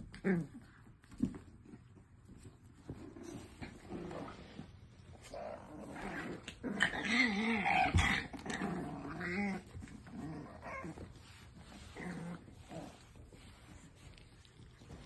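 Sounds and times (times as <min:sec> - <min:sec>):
puppies growling: 0:02.7 - 0:15.0.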